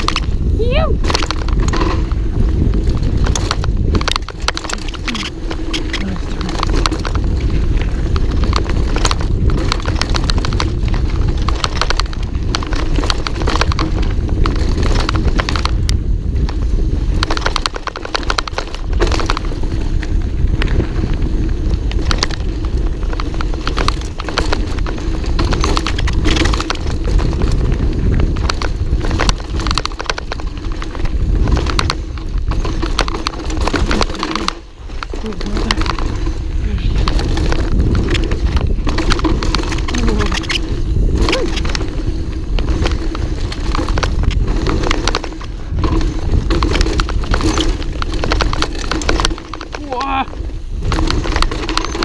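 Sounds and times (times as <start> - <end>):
bike clattering and rattling: 0.0 - 52.0
tyres and wind rumble: 0.0 - 52.0.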